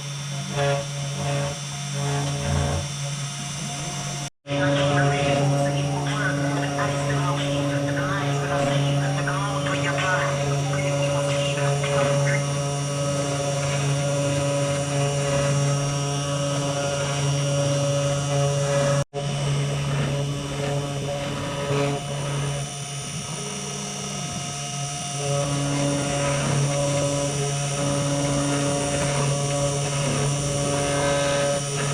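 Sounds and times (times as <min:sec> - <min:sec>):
router motor hum and whine: 0:00.0 - 0:31.9.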